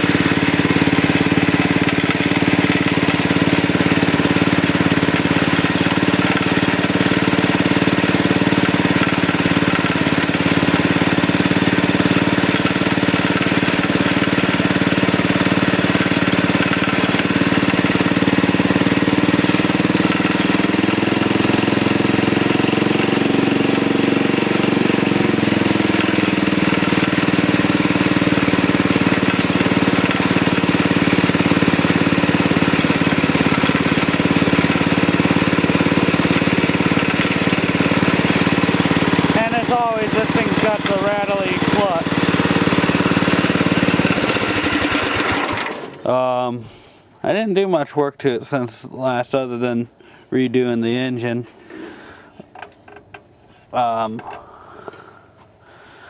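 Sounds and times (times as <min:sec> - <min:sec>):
small engine running: 0:00.0 - 0:46.3.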